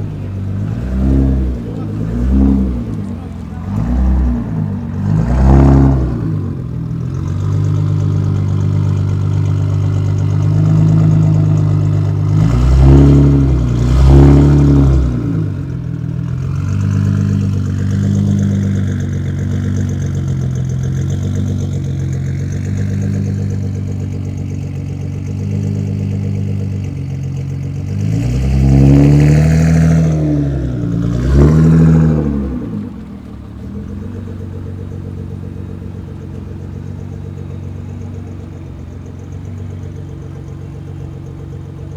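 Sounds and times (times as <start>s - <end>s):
car engine revving: 0.0s - 41.9s
exhaust pops and crackles: 0.0s - 41.9s.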